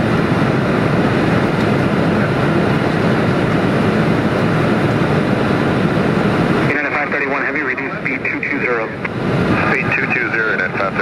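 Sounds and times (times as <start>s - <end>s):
air rushing over cockpit: 0.0s - 11.0s
jet engines running: 0.0s - 11.0s.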